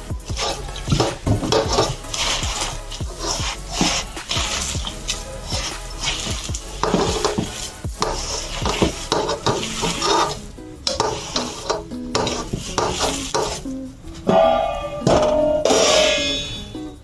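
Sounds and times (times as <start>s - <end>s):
wet batter squelching: 0.0s - 13.7s
fingers scraping steel bowl: 0.0s - 16.6s
soft background music: 0.0s - 17.0s.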